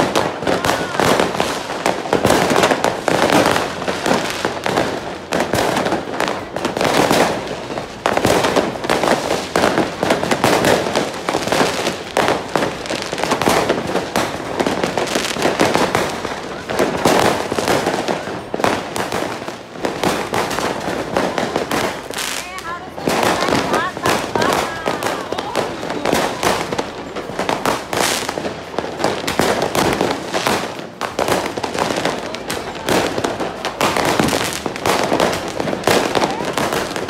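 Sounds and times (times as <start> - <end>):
fireworks and firecrackers banging: 0.0 - 37.0.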